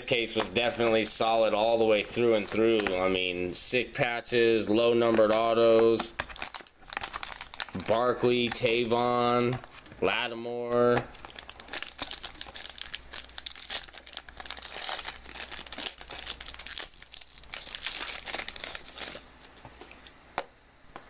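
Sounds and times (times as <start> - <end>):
plastic wrapper crinkling: 0.0 - 3.5, 5.0 - 10.1, 10.9 - 20.1.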